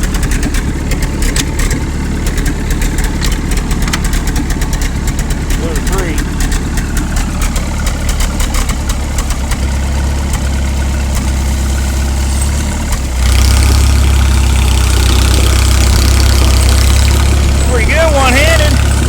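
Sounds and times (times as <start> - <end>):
rapid rattling clicks: 0.0 - 11.4, 12.9 - 19.0
tractor engine running: 0.0 - 19.0.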